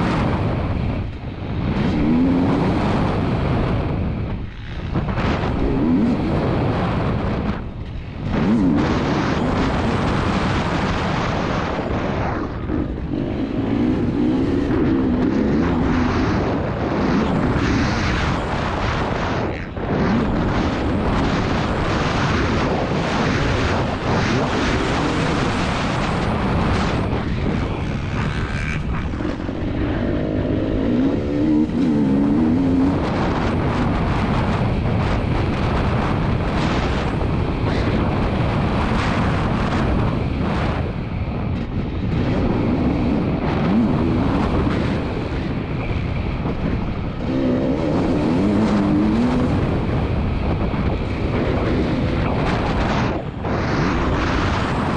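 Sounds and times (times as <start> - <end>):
two-stroke dirt bike engine revving: 1.6 - 40.0, 46.4 - 53.4.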